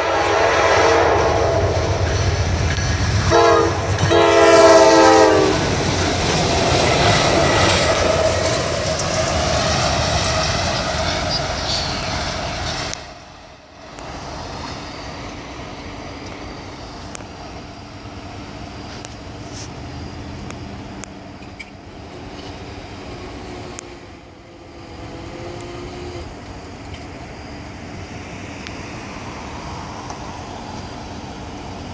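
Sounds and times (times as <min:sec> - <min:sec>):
freight train rumbling by: 0:00.0 - 0:31.9.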